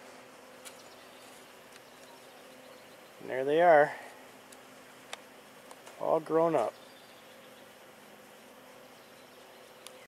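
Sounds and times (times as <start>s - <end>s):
faint continuous hum: 0.0s - 10.0s.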